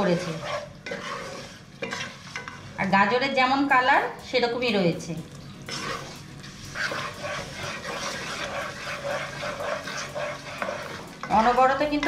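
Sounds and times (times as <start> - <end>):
wooden spatula scraping pot: 0.0 - 3.4, 5.6 - 12.0
gentle sizzle: 0.0 - 12.0.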